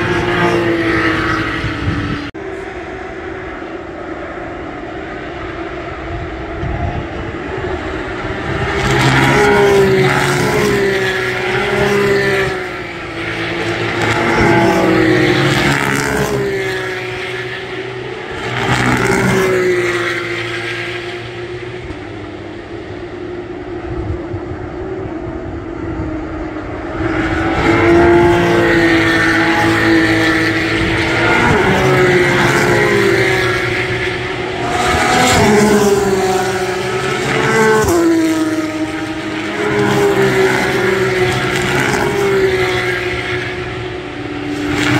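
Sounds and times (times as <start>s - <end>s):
race car engines passing: 0.0s - 44.9s.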